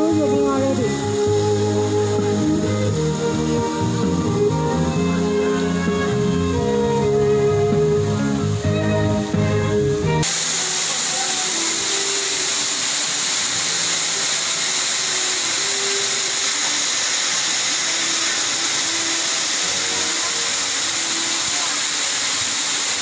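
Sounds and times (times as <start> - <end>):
waterfall pouring: 0.0 - 23.0.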